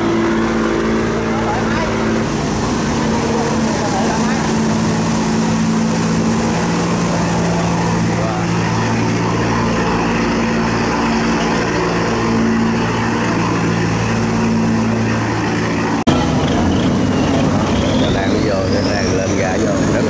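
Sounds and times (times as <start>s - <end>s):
boat engine humming: 0.0s - 20.0s
water rushing and churning: 0.0s - 20.0s.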